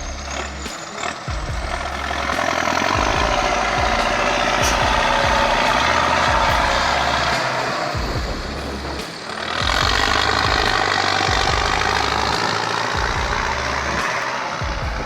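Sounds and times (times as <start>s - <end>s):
tractor diesel engine whine: 0.0s - 15.0s.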